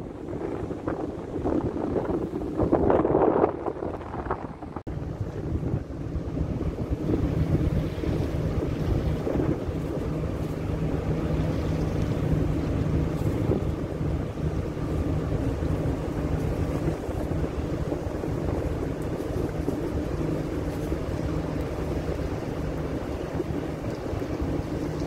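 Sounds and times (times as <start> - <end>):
ship engines droning: 0.0 - 25.0
water washing: 0.0 - 25.0
wind buffeting microphone: 0.0 - 25.0.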